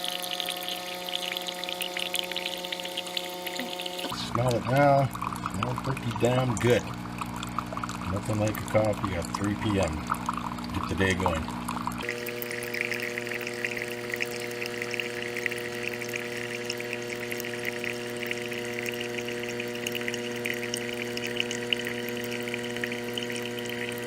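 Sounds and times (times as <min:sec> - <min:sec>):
coffee streaming into mug: 0:00.0 - 0:24.0
water pump humming: 0:00.0 - 0:24.0.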